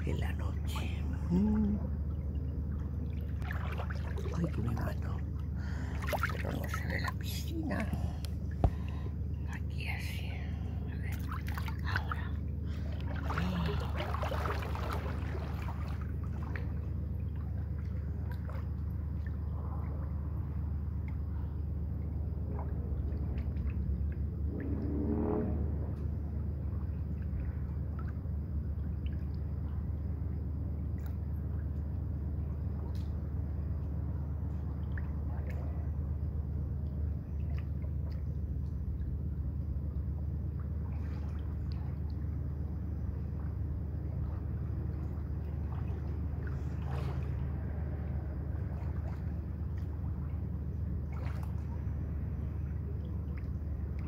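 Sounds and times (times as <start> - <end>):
pool water lapping and splashing: 0.0 - 54.0
steady low hum: 0.0 - 54.0.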